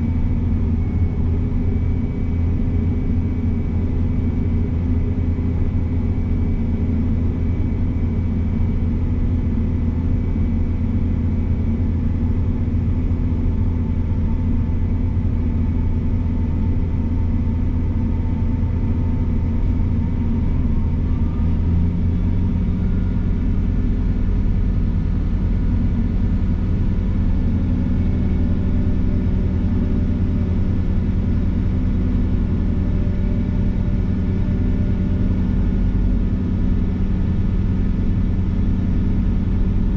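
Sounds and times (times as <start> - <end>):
construction machine engine running: 0.0 - 39.9.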